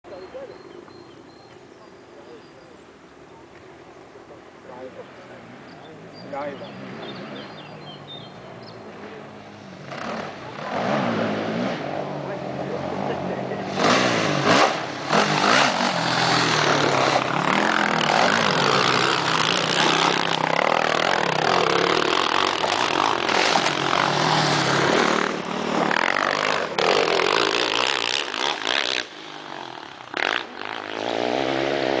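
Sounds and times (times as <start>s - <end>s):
quad engines revving: 4.3s - 32.0s.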